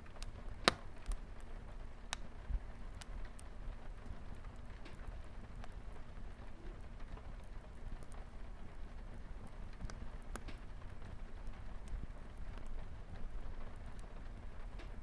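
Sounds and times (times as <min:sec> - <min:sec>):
light rain: 0:00.0 - 0:15.0
wood fire crackling: 0:00.0 - 0:15.0.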